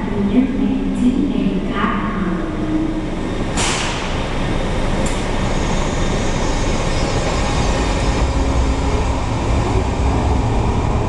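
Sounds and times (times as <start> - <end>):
train low rumble: 0.0 - 11.0.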